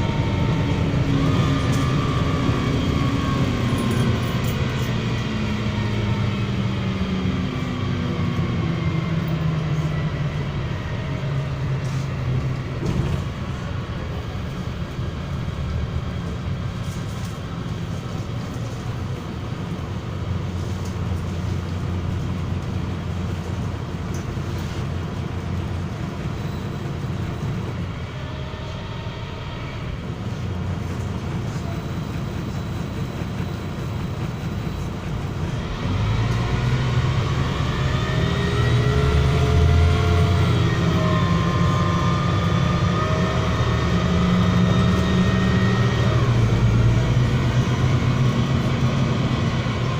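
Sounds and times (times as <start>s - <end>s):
bus diesel engine running: 0.0s - 49.9s
road noise: 0.0s - 49.9s.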